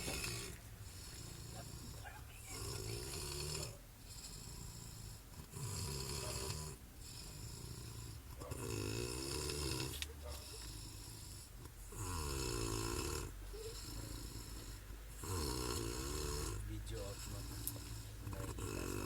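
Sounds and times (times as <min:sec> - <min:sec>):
person snoring: 0:00.0 - 0:19.0.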